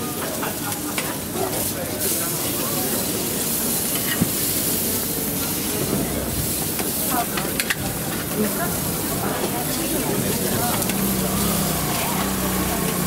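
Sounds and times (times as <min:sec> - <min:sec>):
food sizzling in a hot pan: 0:00.1 - 0:13.0.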